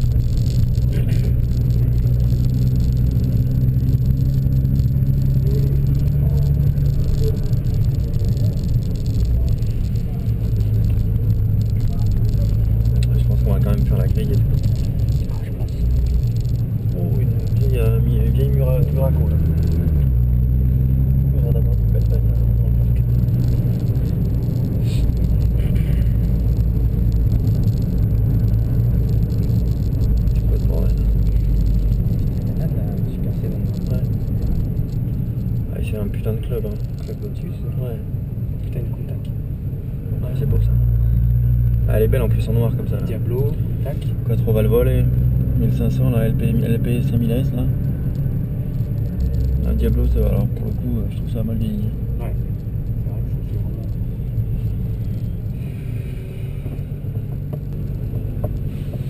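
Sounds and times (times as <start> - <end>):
car engine droning in cabin: 0.0 - 59.0.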